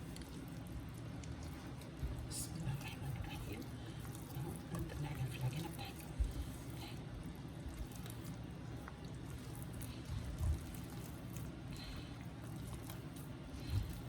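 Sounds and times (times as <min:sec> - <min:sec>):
hands squishing wet dough: 0:00.0 - 0:14.0.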